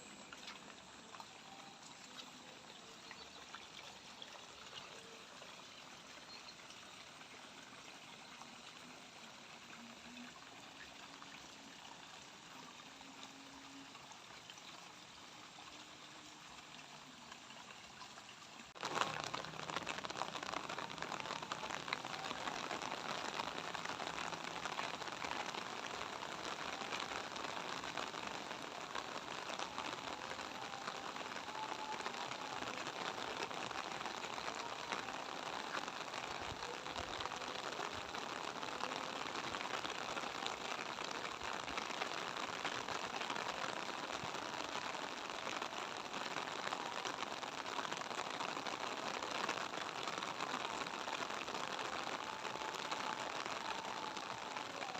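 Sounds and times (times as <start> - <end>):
light rain pattering: 0.0 - 54.9.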